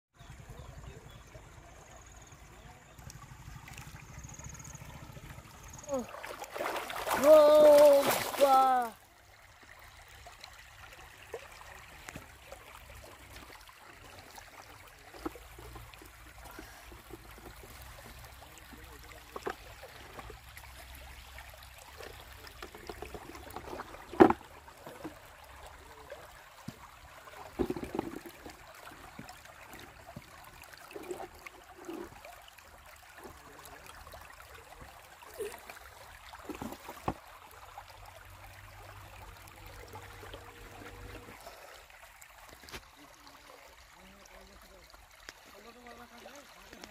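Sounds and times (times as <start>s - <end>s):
river water trickling: 0.2s - 46.9s.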